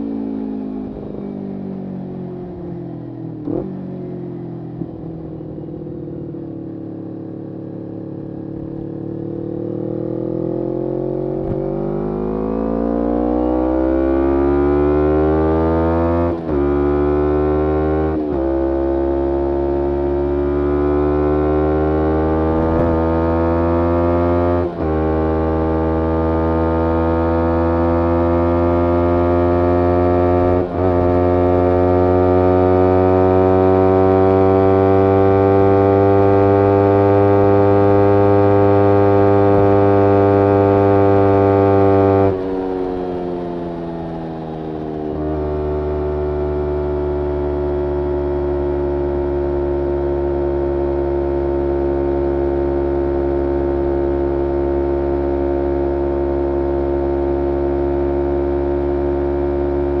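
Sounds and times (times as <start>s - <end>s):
motorcycle engine drone: 0.0s - 60.0s.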